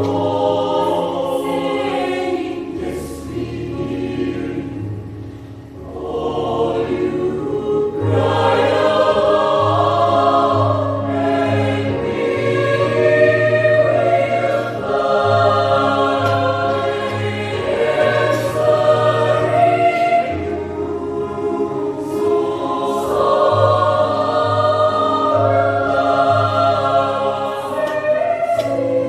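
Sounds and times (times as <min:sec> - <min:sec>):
choir singing in parts: 0:00.0 - 0:29.0.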